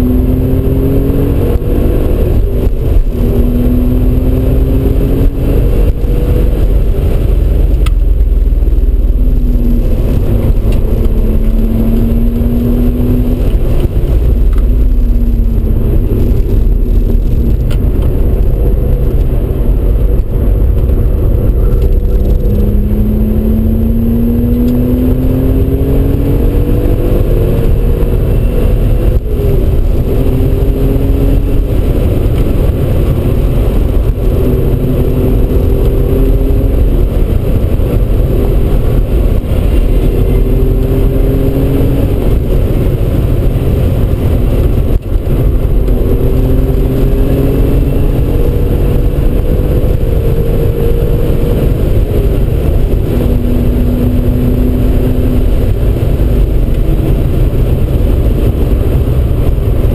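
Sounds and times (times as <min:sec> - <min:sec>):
car engine pulling hard: 0:00.0 - 0:59.9
road and wind rumble: 0:00.0 - 0:59.9.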